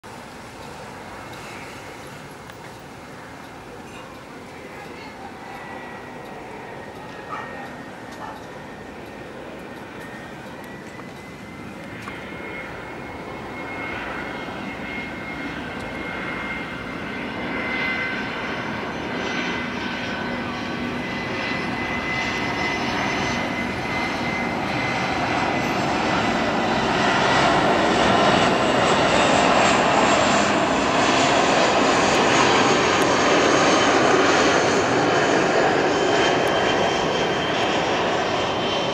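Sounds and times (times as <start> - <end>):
jet engines flying low overhead: 0.0 - 38.9
high engine whine: 0.1 - 38.9.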